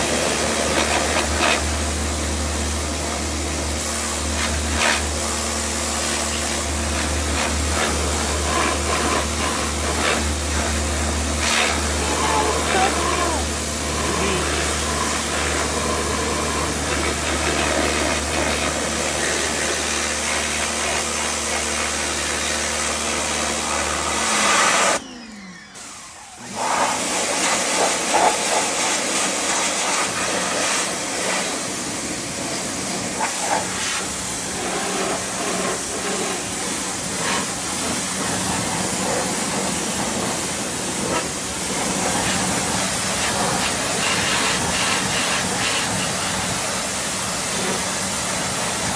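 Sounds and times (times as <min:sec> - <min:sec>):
pressure washer spray hissing: 0:00.0 - 0:25.0, 0:26.6 - 0:48.9
pressure washer motor humming: 0:00.0 - 0:48.9.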